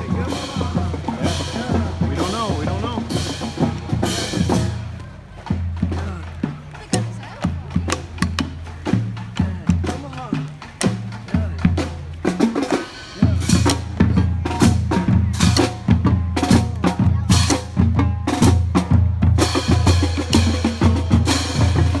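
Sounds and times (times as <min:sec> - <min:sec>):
drumline on snare and bass drums: 0:00.0 - 0:22.0.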